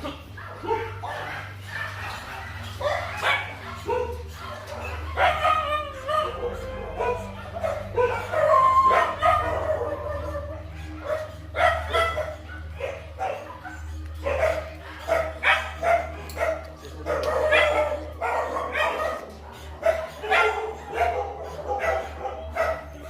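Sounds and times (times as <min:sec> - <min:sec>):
dog barking and yelping: 0:00.0 - 0:23.0.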